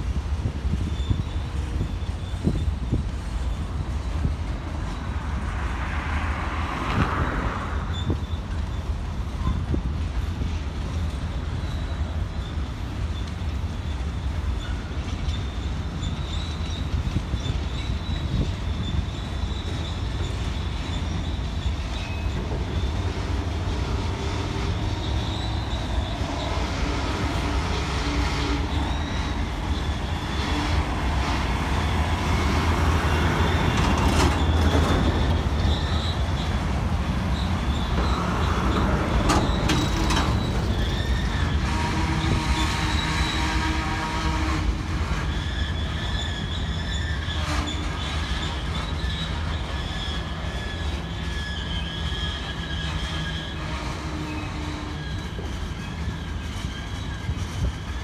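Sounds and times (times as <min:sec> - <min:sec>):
train wheels rumbling on rail: 0:00.0 - 0:58.0
high-pitched wheel squeal: 0:00.7 - 0:05.1, 0:06.6 - 0:09.7, 0:11.4 - 0:58.0.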